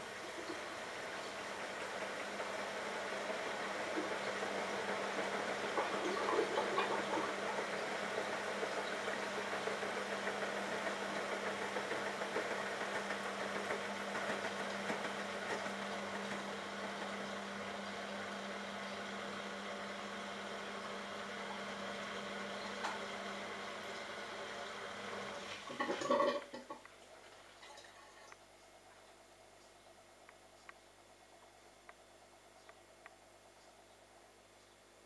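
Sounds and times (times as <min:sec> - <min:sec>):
washing machine motor humming: 0:00.0 - 0:28.4.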